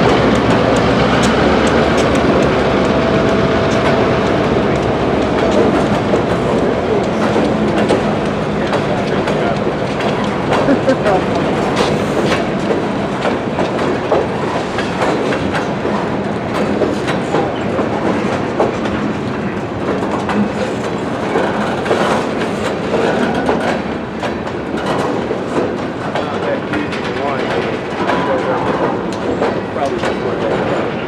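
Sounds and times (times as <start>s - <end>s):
train wheels clattering over rail joints: 0.0s - 31.0s.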